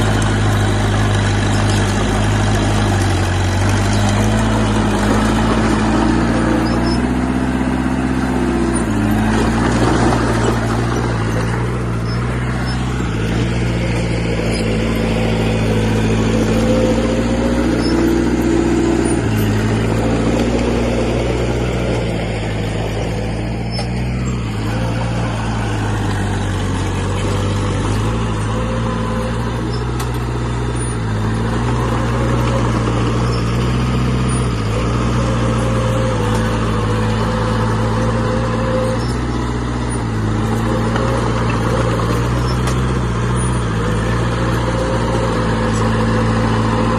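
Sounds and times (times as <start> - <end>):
heavy machinery diesel engine: 0.0 - 46.9.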